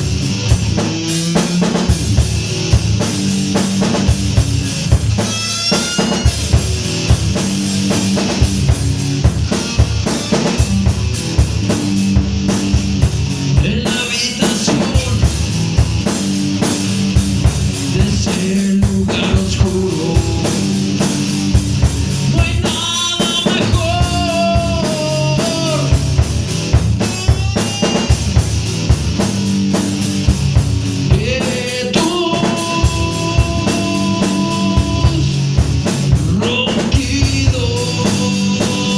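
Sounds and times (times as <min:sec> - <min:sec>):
distorted guitars: 0:00.0 - 0:38.9
rapid bass drum hits: 0:00.0 - 0:38.9.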